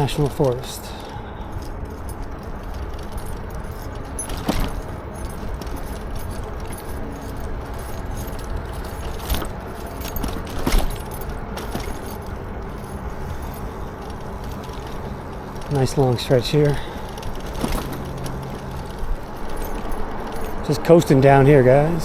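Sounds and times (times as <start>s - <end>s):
bike rattling and clinking: 0.0s - 22.0s.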